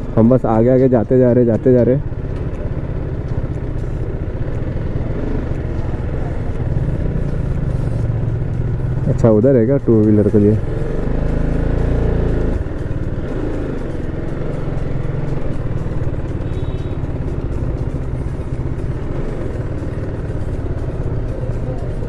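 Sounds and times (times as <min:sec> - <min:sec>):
motorcycle engine running at low speed: 0:00.0 - 0:22.0.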